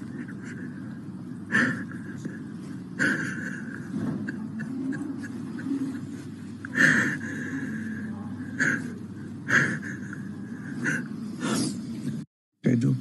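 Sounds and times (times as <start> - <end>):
gasping breaths: 0.0 - 12.2
laboured human breathing: 0.0 - 12.2.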